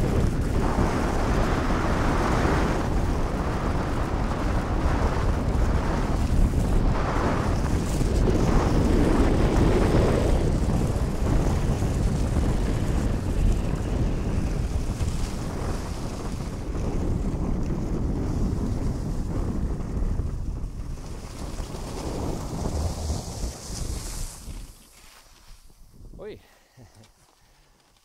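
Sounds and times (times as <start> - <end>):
wind buffeting microphone: 0.0 - 24.9, 25.5 - 26.4
skis sliding over snow: 0.0 - 26.0.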